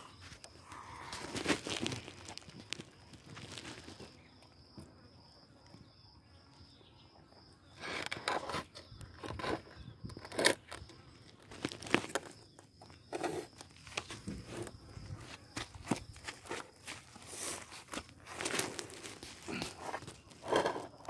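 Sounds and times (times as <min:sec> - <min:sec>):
tortoises crunching food: 0:00.0 - 0:04.2, 0:07.8 - 0:21.0.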